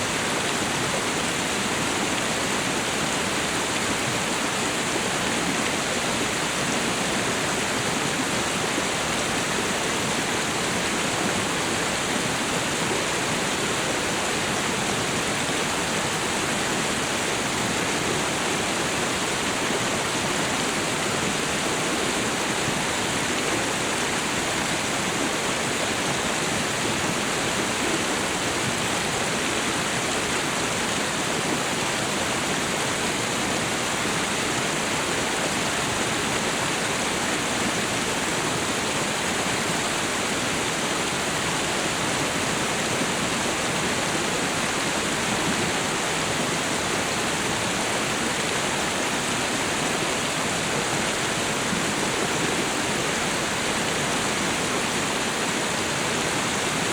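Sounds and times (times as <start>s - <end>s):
waterfall and river rushing: 0.0s - 56.9s.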